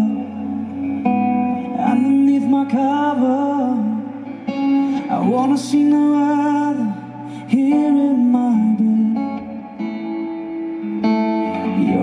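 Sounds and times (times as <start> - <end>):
man singing into a microphone: 0.0 - 0.8, 1.5 - 9.8, 11.5 - 12.0
acoustic guitar: 0.0 - 12.0.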